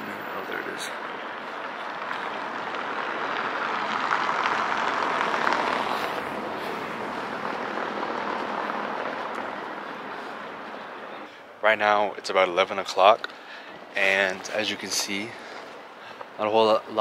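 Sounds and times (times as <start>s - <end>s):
vehicle passing on street: 0.0s - 17.0s.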